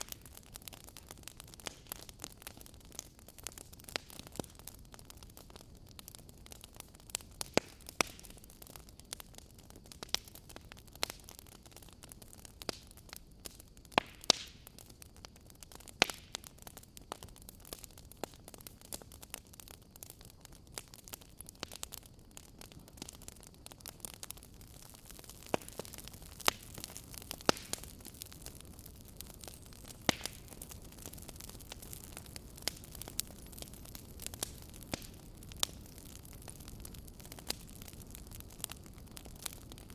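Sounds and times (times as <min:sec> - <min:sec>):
low steady hiss: 0:00.0 - 0:39.9
wood fire crackling and popping: 0:00.0 - 0:39.9.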